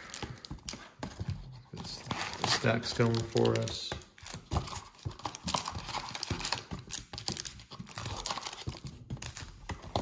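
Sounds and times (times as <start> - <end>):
card packs crinkling: 0.0 - 10.0
packs tapping on a table: 0.0 - 10.0.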